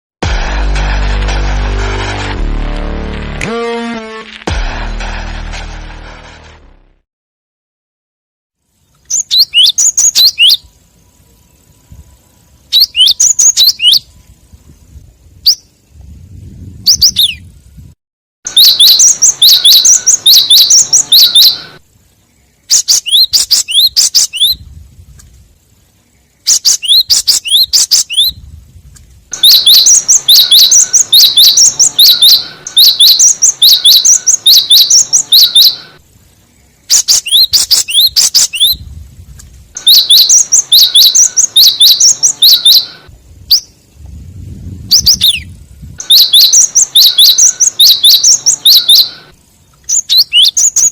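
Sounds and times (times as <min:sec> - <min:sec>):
recorded bird chirps: 0:08.6 - 0:50.9.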